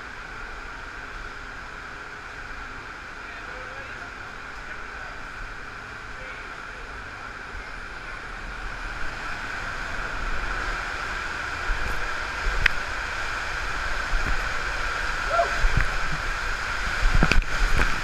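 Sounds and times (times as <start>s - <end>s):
water rushing in a slide tube: 0.0s - 18.0s.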